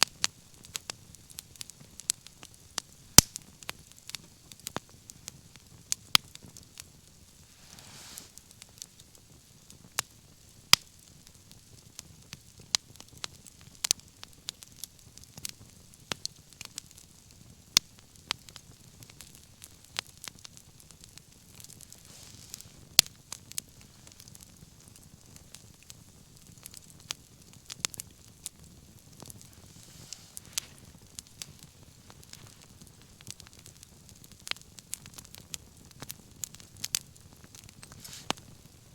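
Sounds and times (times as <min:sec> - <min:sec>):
bonfire crackling: 0:00.0 - 0:38.9
faint steady hiss: 0:00.0 - 0:38.9.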